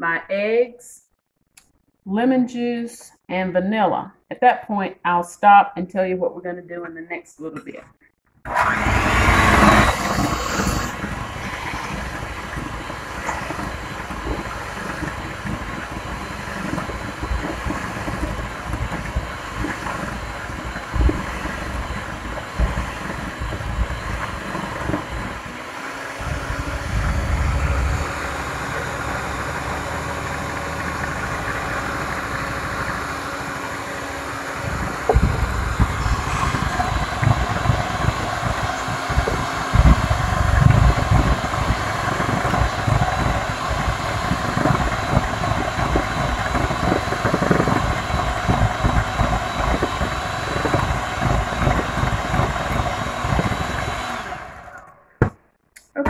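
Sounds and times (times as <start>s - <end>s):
electric hand mixer whirring: 8.5s - 55.3s.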